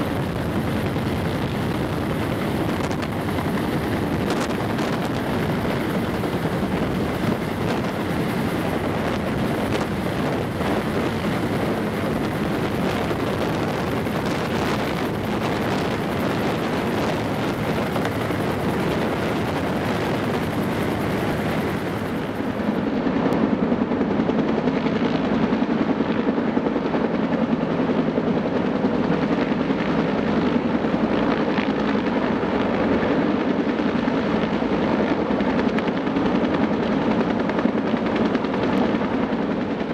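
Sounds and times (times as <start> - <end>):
helicopter running close by: 0.0 - 39.9.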